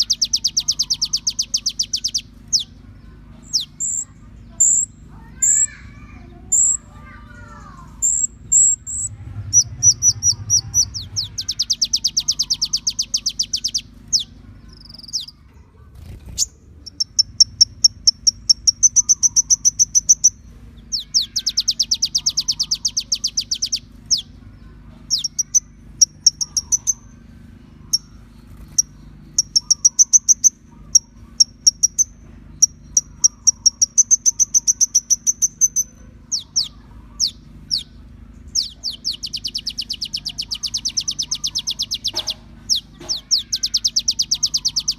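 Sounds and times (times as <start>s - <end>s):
faint low hum: 0.0s - 44.9s
sunbird singing: 0.0s - 44.9s.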